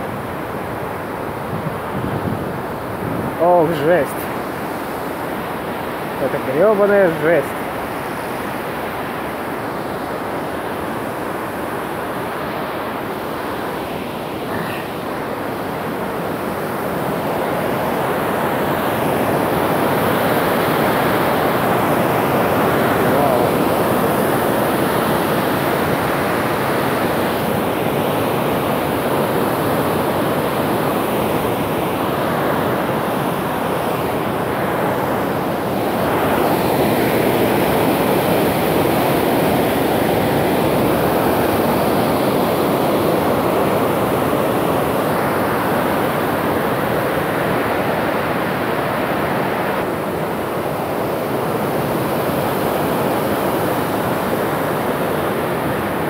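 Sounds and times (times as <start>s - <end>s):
water rushing through spillway: 0.0s - 56.0s.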